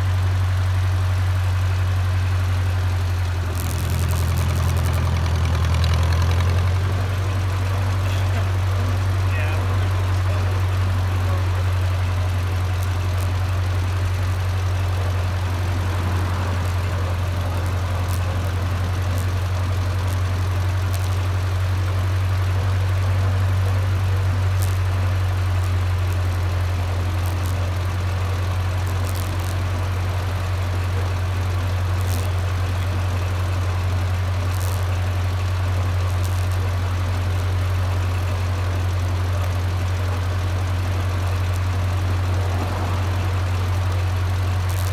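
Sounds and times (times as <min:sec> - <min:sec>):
tractor engine droning: 0:00.0 - 0:44.9.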